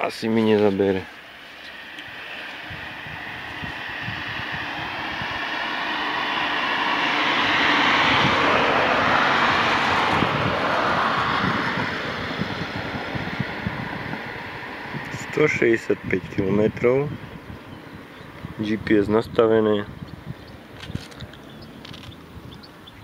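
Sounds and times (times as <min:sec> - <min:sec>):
vehicle passing by: 0:00.6 - 0:23.0.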